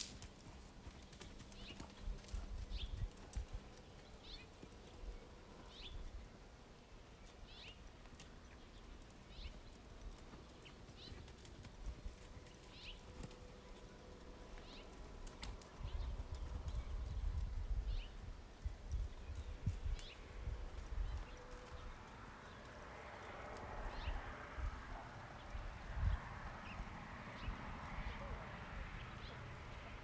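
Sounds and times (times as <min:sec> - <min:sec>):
horse hooves in sand: 0:00.0 - 0:30.0.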